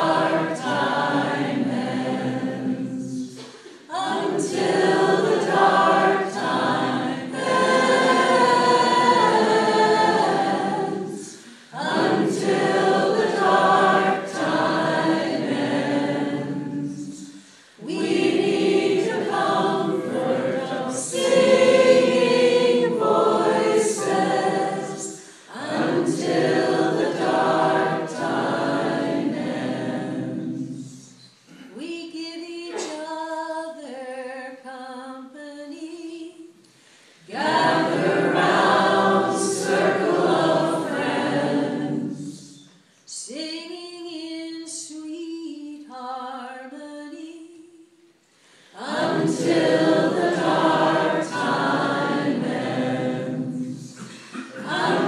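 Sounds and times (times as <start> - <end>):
women singing a cappella: 0.0 - 36.6, 37.2 - 55.0.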